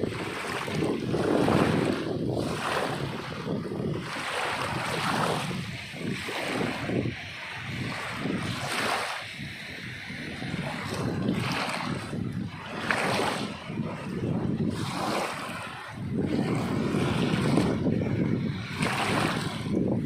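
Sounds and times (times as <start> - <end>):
sea waves breaking: 0.0 - 20.0
wind on microphone: 0.0 - 20.0.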